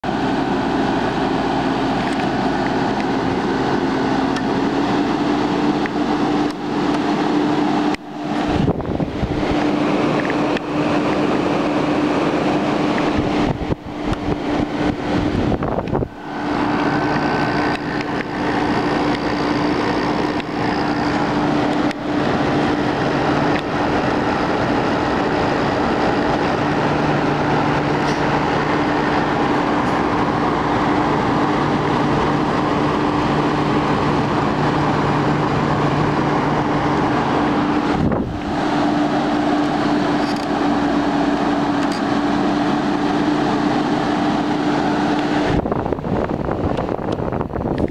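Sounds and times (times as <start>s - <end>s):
air conditioner fan rushing: 0.0s - 47.9s
constant hum: 0.0s - 47.9s.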